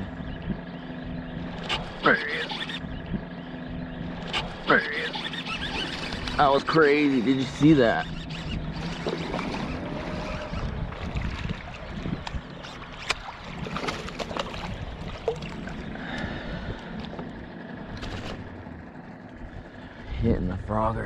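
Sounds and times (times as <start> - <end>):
water sloshing and lapping: 0.2 - 19.9.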